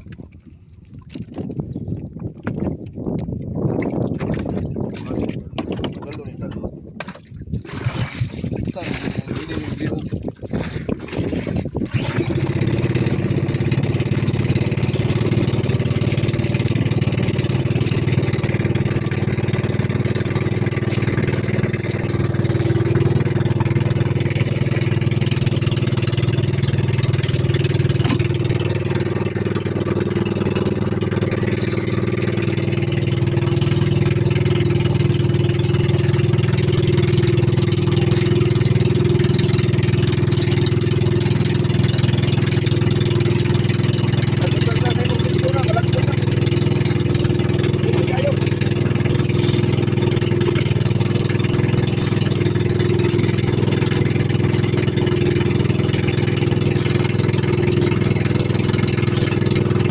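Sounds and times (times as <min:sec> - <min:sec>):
boat engine running steadily: 0:00.0 - 0:59.9.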